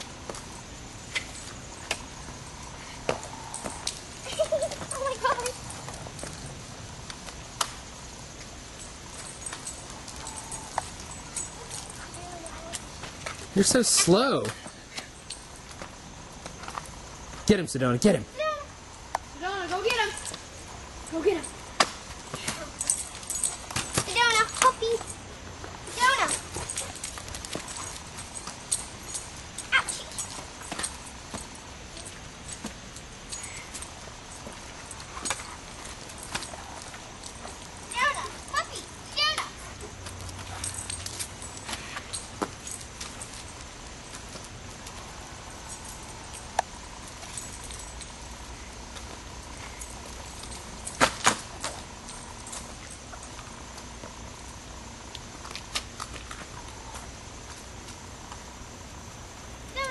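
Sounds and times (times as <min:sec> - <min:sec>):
steady background noise: 0:00.0 - 0:59.9.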